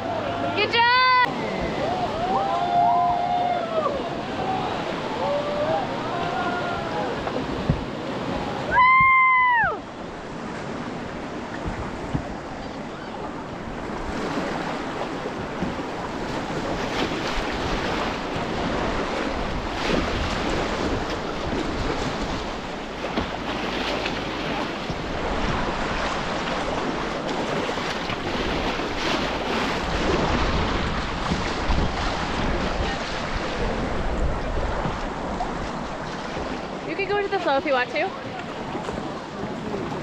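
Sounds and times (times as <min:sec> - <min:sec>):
wind buffeting microphone: 0:01.4 - 0:40.0.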